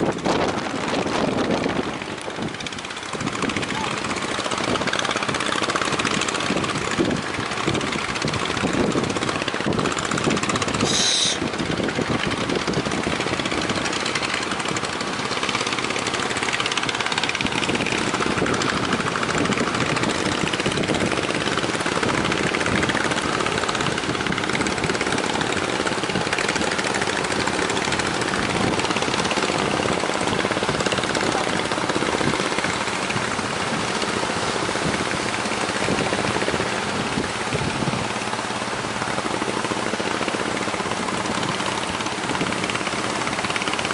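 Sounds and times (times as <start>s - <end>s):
outboard engine at full throttle: 0.0s - 43.9s
rush of wind and water: 0.0s - 43.9s.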